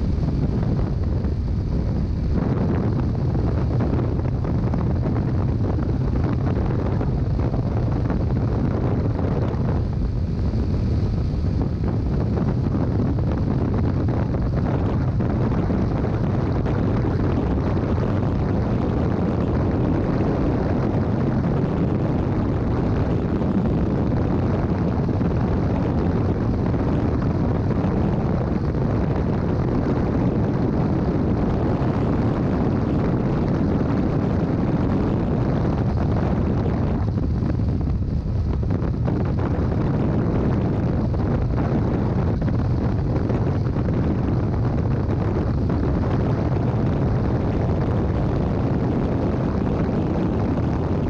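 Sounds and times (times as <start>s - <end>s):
wind noise on microphone: 0.0s - 51.0s.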